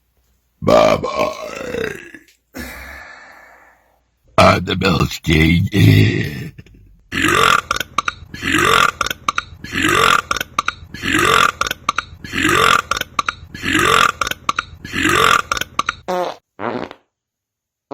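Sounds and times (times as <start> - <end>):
belching: 0.6 - 3.2, 4.3 - 17.0.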